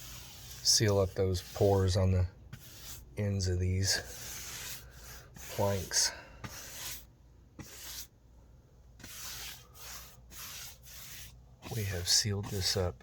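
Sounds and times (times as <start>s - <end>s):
paintbrush scratching on wood: 0.0s - 8.1s, 9.0s - 13.0s.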